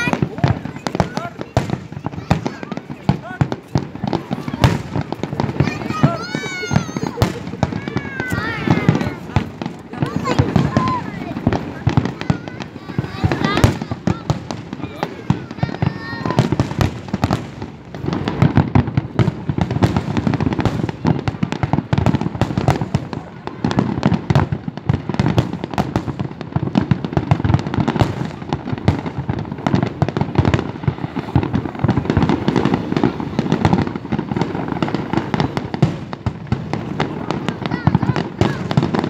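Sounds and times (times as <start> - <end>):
fireworks cracks and bangs: 0.0 - 39.0.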